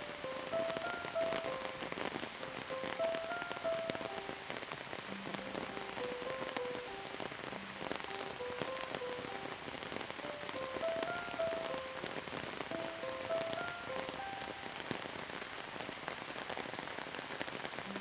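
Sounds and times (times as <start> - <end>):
slow tune of held notes: 0.0 - 15.1
rain falling: 0.0 - 18.0.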